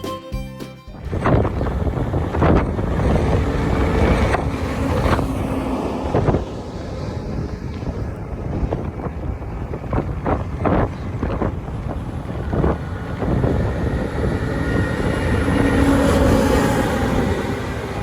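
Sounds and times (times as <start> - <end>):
combine harvester engine running: 1.0 - 18.0
wind gusting on microphone: 1.0 - 18.0.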